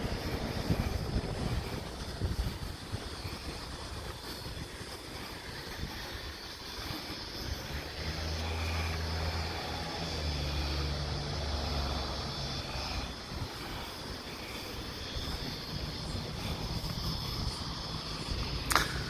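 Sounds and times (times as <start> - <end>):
low engine drone: 0.0 - 19.0
wind buffeting microphone: 0.0 - 19.0.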